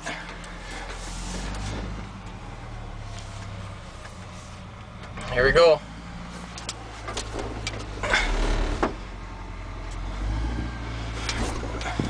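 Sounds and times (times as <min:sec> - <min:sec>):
truck clunking and rattling: 0:00.0 - 0:05.4, 0:06.2 - 0:12.0
diesel engine droning: 0:00.0 - 0:12.0.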